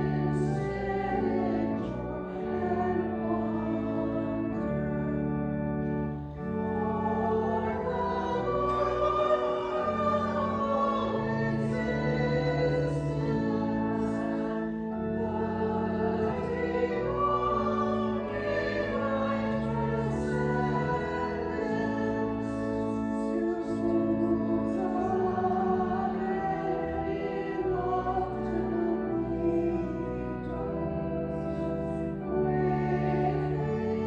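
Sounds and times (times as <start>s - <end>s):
congregation singing a hymn: 0.0s - 34.0s
organ chords: 0.0s - 34.0s.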